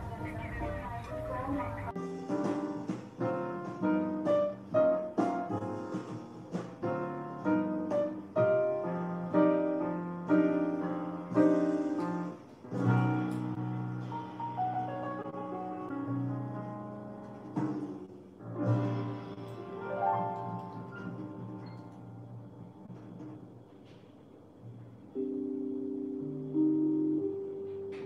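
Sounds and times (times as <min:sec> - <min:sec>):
piano music: 0:00.0 - 0:23.7, 0:24.7 - 0:28.0.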